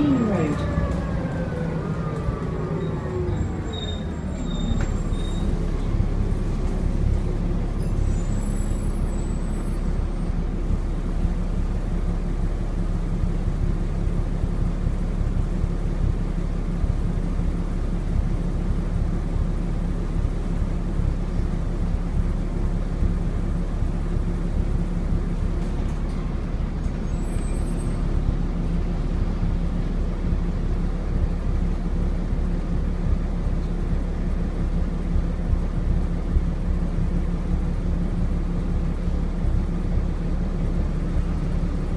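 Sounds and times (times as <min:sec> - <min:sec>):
diesel bus engine running: 0:00.0 - 0:41.9.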